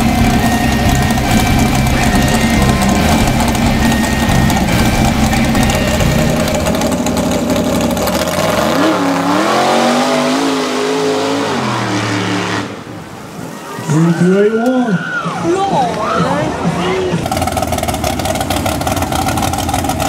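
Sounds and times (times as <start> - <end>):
truck engine revving: 0.0 - 13.2, 16.5 - 20.0.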